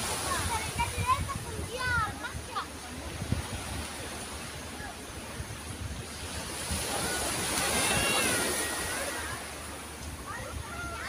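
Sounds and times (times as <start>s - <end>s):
waves washing on pebbles: 0.0s - 11.0s.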